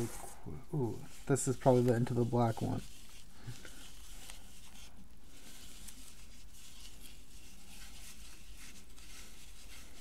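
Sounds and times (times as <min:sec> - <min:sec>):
paper strips rustling and crinkling: 0:00.8 - 0:10.0.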